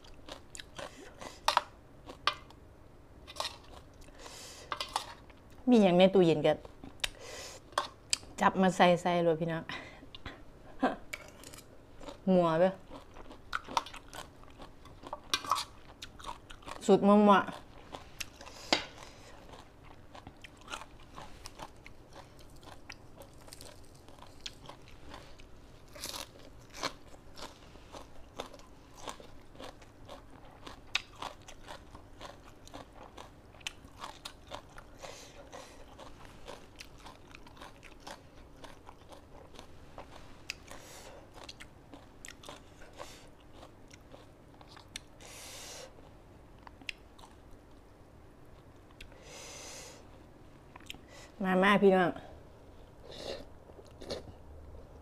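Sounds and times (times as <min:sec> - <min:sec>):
crunching and chewing food: 0:00.0 - 0:02.6, 0:03.2 - 0:05.6, 0:11.1 - 0:49.3, 0:52.9 - 0:55.0.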